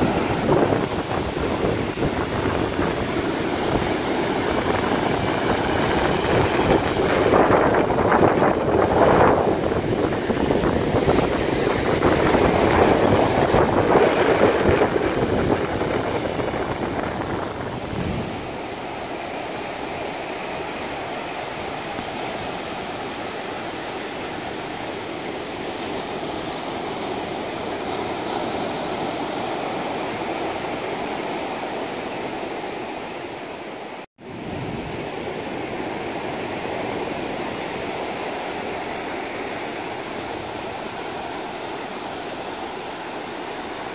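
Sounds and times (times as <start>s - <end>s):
ocean surf breaking: 0.0s - 43.9s
wind rumbling on microphone: 0.0s - 43.9s.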